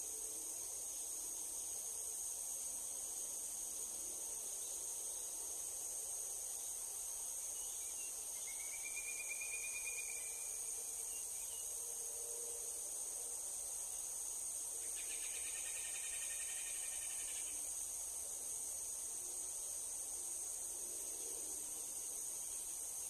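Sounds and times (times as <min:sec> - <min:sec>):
crickets and insects chorus: 0:00.0 - 0:23.0
insect trill: 0:00.0 - 0:23.0.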